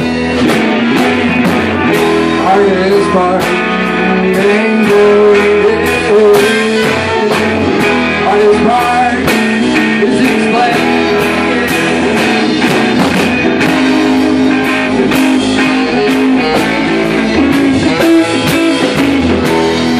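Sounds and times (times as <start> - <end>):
drums with steady beat: 0.0 - 19.9
guitar: 0.0 - 19.9
live rock band playing: 0.0 - 19.9.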